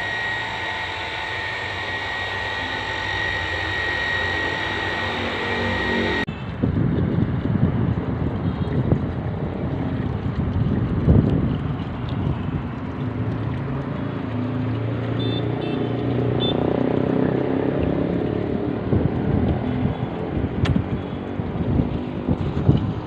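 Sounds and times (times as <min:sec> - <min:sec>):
water pump running: 0:00.0 - 0:23.0.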